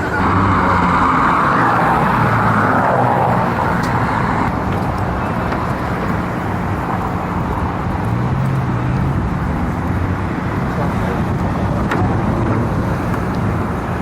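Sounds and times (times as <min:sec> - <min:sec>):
cars passing: 0:00.0 - 0:14.0
low engine hum: 0:00.0 - 0:14.0.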